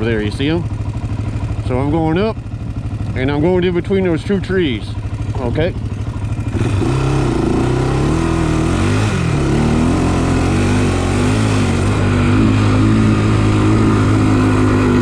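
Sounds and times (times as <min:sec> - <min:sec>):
quad bike engine under hard throttle: 0:00.0 - 0:15.0.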